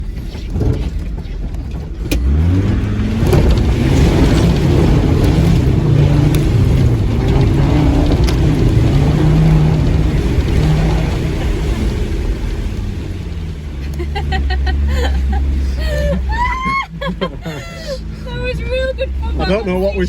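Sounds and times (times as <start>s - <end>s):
engine revving hard: 2.1s - 16.4s, 17.2s - 20.0s.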